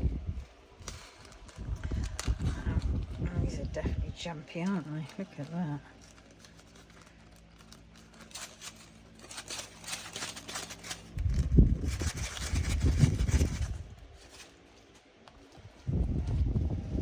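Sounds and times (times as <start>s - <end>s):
rustling and clattering handling: 0.0s - 17.0s.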